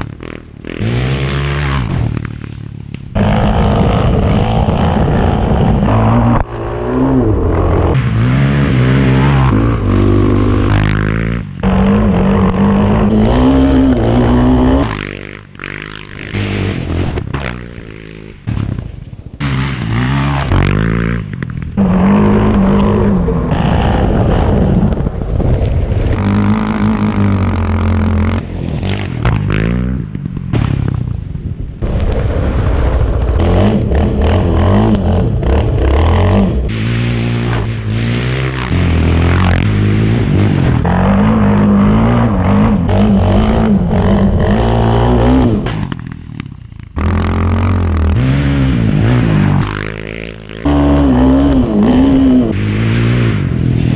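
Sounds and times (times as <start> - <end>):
quad bike engines revving: 0.0 - 32.2, 32.8 - 53.9.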